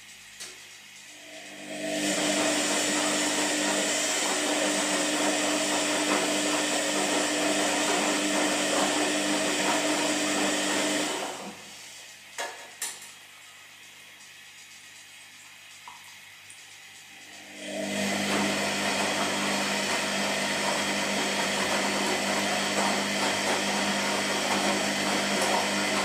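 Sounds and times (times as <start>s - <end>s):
washing machine motor whirring: 0.0s - 26.0s.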